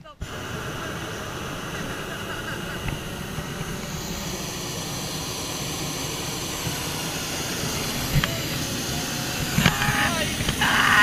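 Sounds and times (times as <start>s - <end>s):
propane burner blast: 0.0s - 11.0s.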